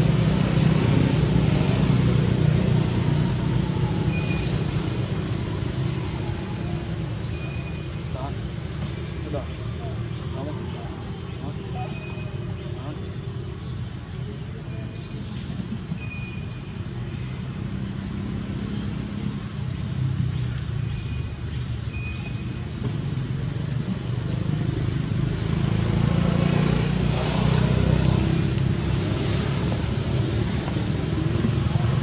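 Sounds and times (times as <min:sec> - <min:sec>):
engine low rumble: 0:00.0 - 0:32.0.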